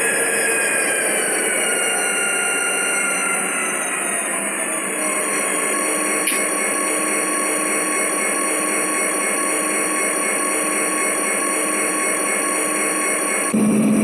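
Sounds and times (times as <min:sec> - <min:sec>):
model train motor whining: 0:00.0 - 0:14.0
wheels humming on track: 0:00.0 - 0:14.0.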